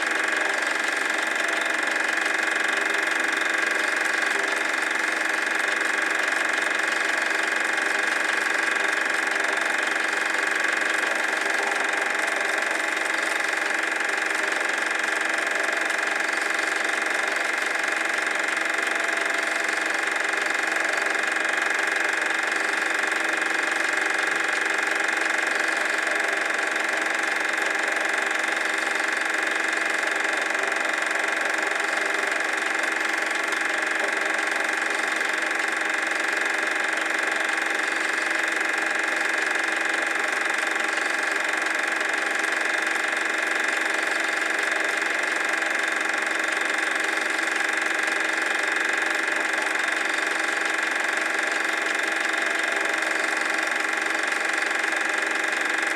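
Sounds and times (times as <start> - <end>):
film projector whirring: 0.0 - 55.9.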